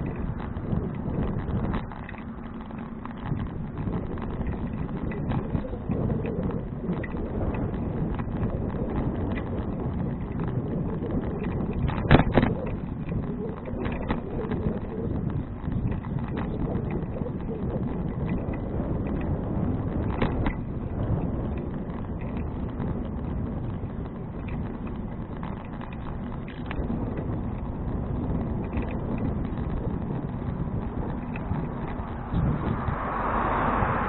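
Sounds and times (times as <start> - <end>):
bicycle rattles and knocks: 0.0 - 34.0
wind rumble on microphone: 0.0 - 34.0.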